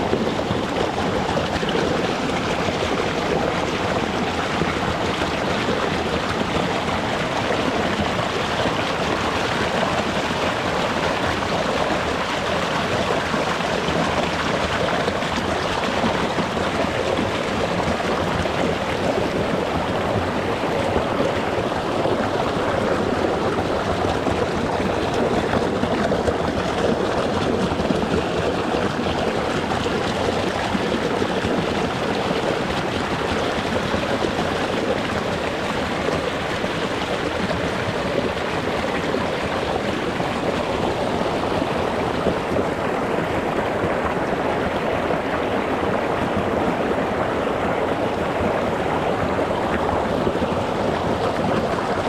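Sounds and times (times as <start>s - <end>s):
stream running over stones: 0.0s - 52.0s.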